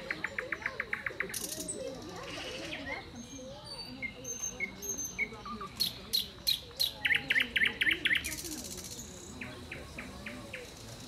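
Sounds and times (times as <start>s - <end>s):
small songbirds singing and calling: 0.0s - 11.0s.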